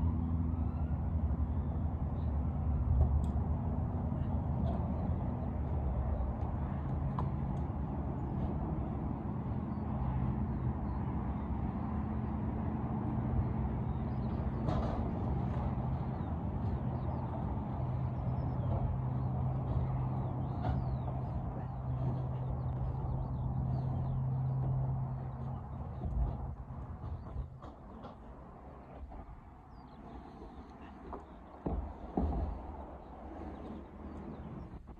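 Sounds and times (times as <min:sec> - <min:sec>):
low engine hum: 0:00.0 - 0:34.9.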